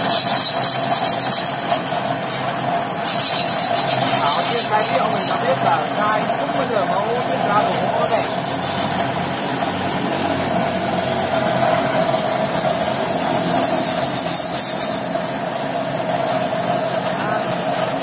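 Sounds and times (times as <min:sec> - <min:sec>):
wood lathe motor hum: 0:00.0 - 0:18.0.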